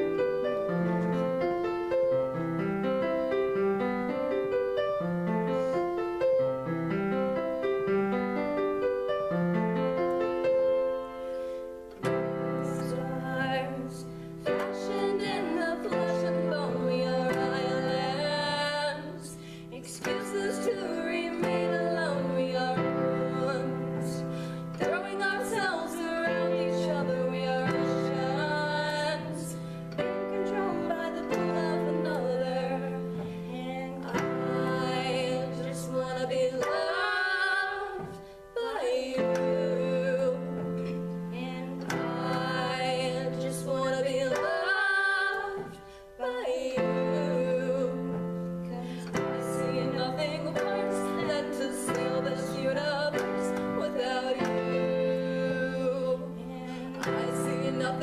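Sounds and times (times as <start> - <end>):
digital piano chords: 0.0 - 58.0
woman singing a slow ballad: 11.3 - 58.0.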